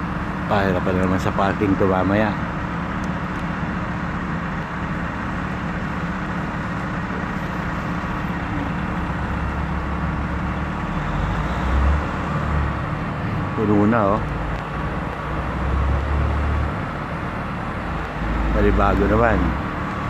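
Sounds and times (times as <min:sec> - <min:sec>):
heavy vehicle engines rumbling: 0:00.0 - 0:20.0.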